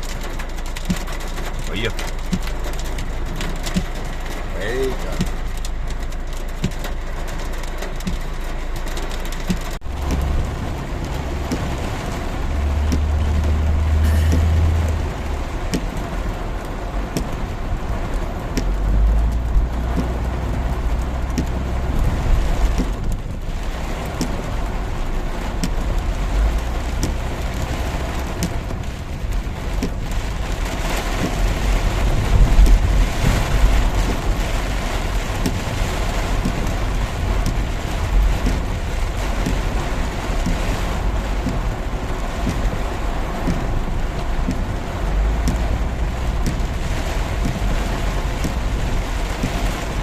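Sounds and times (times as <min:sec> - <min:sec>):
car engine and tyres: 0:00.0 - 0:50.0
heavy rain pouring: 0:00.0 - 0:50.0.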